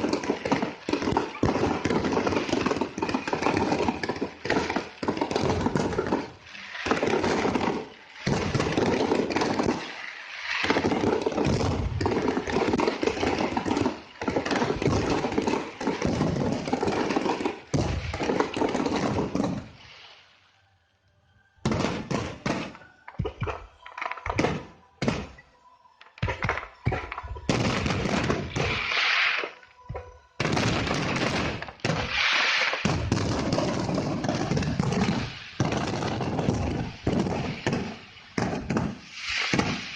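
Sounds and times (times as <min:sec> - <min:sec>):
fireworks bangs: 0:00.0 - 0:20.1, 0:21.6 - 0:25.4, 0:26.2 - 0:39.9.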